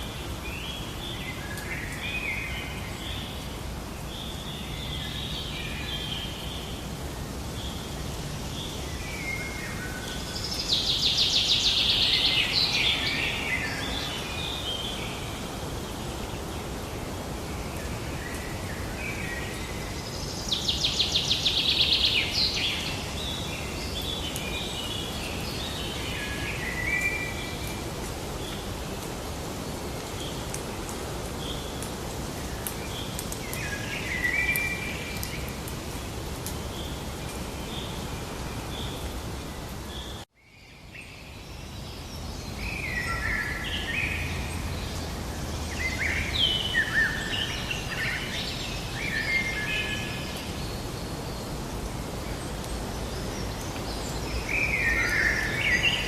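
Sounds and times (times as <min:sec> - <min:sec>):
outdoor background hiss: 0:00.0 - 0:56.0
songbird singing: 0:00.0 - 0:56.0.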